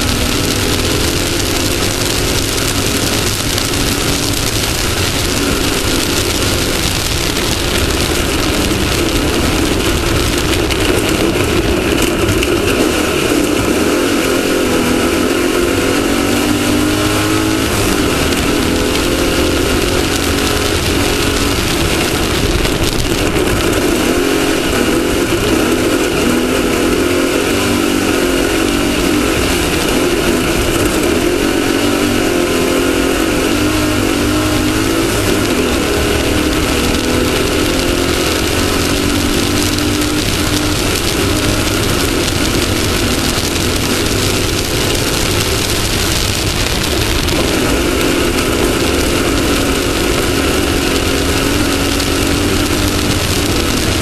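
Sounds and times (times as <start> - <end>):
race car engine revving: 0.0 - 54.0
wind and driving noise: 0.0 - 54.0.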